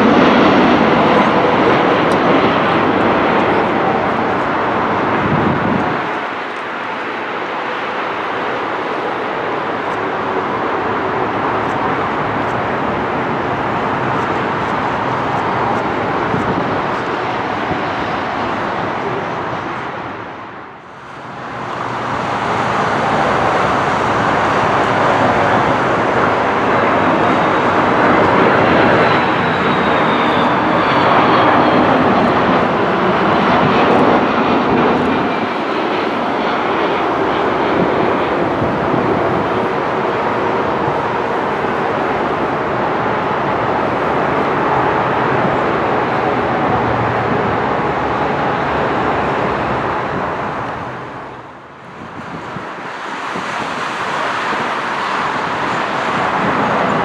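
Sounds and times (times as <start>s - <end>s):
jet airliner engine noise: 0.0s - 57.0s.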